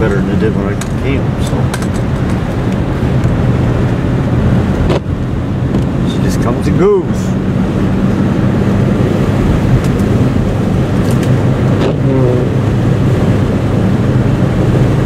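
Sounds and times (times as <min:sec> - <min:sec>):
car engine hum: 0:00.0 - 0:15.0
road and wind noise: 0:00.0 - 0:15.0.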